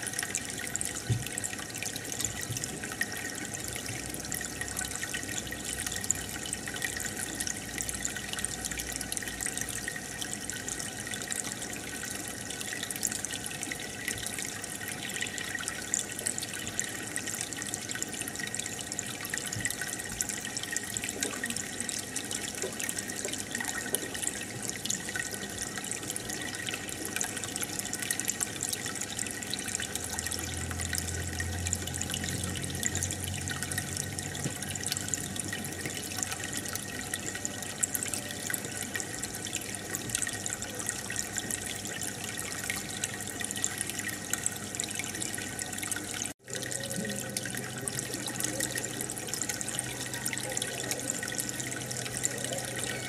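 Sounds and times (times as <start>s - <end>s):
aquarium water bubbling: 0.0s - 53.0s.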